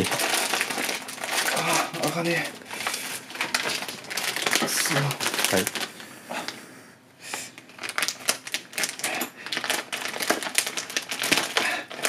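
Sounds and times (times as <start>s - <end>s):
plastic wrapping crinkling: 0.0s - 6.6s, 7.5s - 12.0s.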